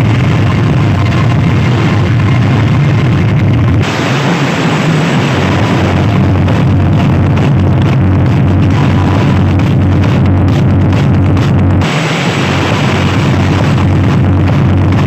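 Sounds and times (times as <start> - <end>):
loud bass-heavy dj music: 0.0 - 15.0.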